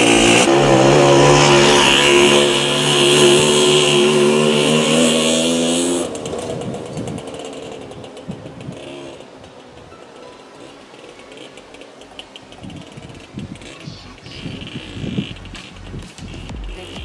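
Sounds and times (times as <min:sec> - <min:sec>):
moped two-stroke engine: 0:00.0 - 0:17.0.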